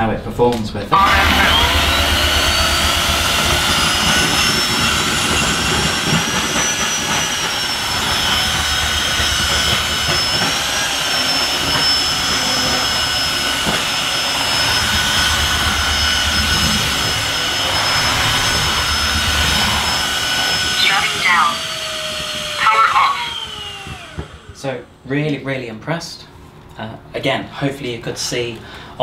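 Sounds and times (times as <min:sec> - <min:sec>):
floor washer running with high whine: 0:00.9 - 0:25.1.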